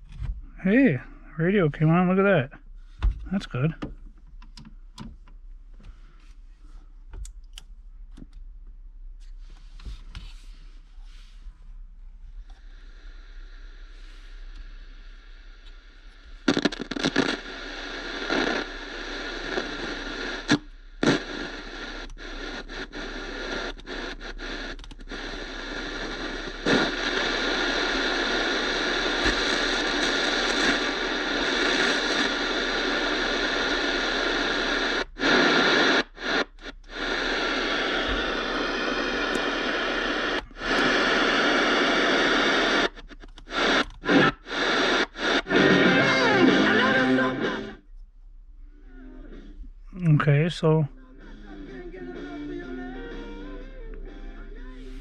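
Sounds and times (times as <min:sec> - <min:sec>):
radio static hiss: 0:00.6 - 0:02.7, 0:03.3 - 0:03.9, 0:12.4 - 0:47.9, 0:48.6 - 0:55.0.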